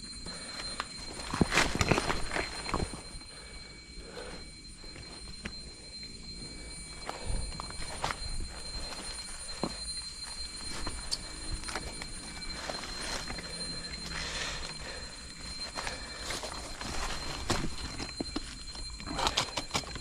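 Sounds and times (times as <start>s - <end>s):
steady high-pitched tone: 0.0s - 20.0s.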